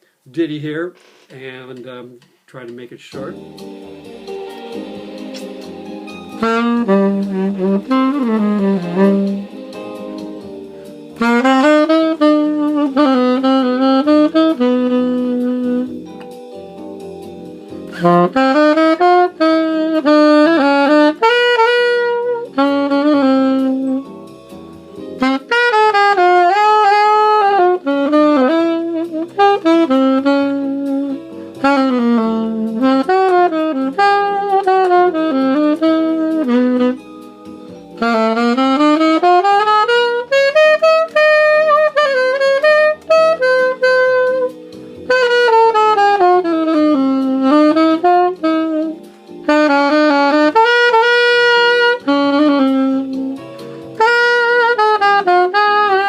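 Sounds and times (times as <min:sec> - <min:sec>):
alto saxophone tune: 0:03.1 - 0:56.0.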